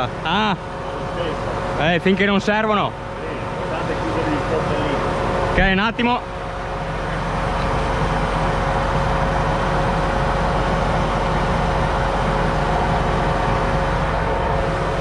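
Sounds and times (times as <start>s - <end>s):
faint steady whine: 0.0s - 15.0s
tractor diesel engine running: 0.0s - 15.0s.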